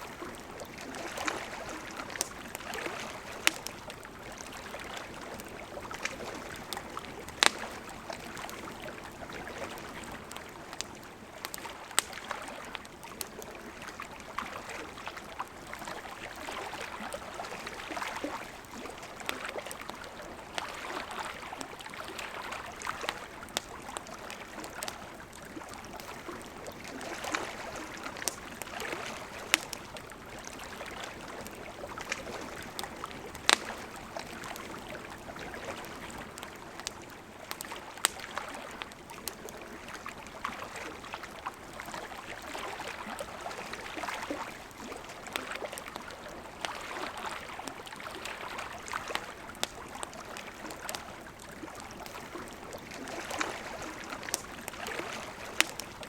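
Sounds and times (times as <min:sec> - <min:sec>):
campfire crackling and popping: 0:00.0 - 0:56.0
river flowing: 0:00.0 - 0:56.0.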